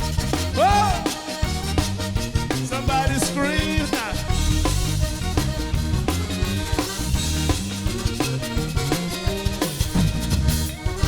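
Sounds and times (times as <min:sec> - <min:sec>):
live band playing upbeat music: 0:00.0 - 0:11.0.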